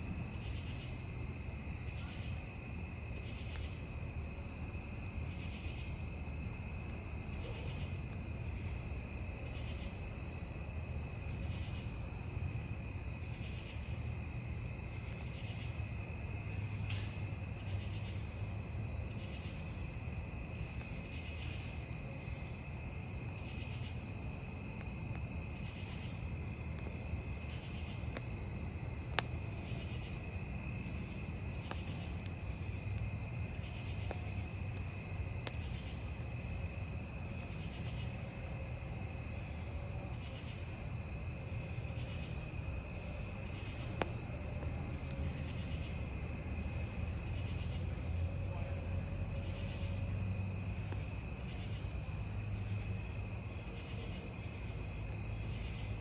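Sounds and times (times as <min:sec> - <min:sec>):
campfire crackling: 0:00.0 - 0:56.0
crickets trilling: 0:00.0 - 0:56.0
cricket pulsing chirps: 0:00.1 - 0:56.0.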